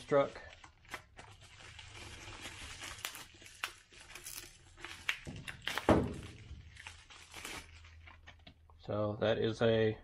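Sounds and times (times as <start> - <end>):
packaging crinkling and rustling: 0.0 - 8.6.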